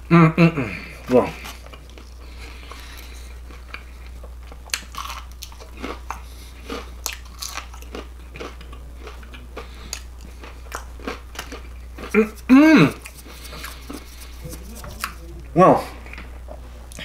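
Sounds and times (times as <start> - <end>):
crunchy chewing: 1.4 - 15.2.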